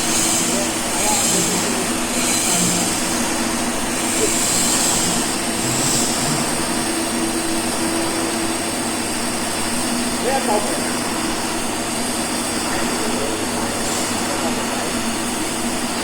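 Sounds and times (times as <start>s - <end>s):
welding arc hissing and humming: 0.0s - 16.0s.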